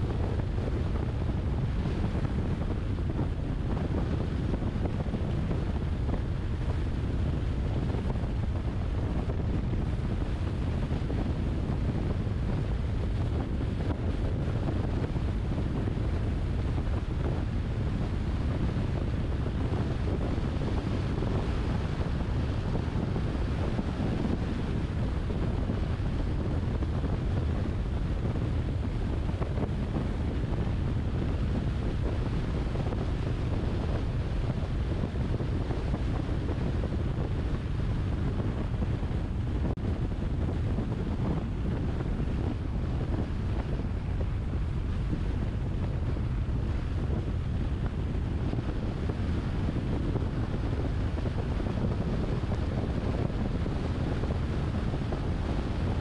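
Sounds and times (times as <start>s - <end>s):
car road rumble: 0.0s - 56.0s
wind noise on microphone: 0.0s - 56.0s.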